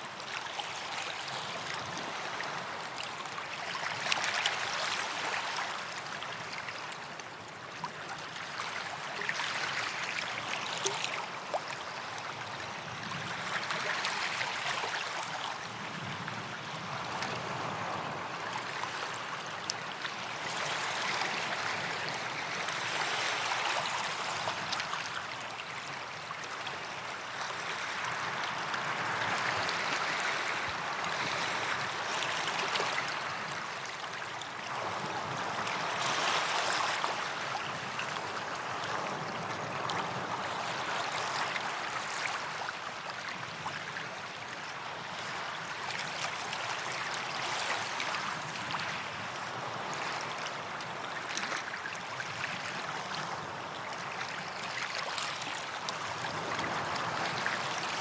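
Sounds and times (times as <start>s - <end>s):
small waves washing onto beach: 0.0s - 58.0s.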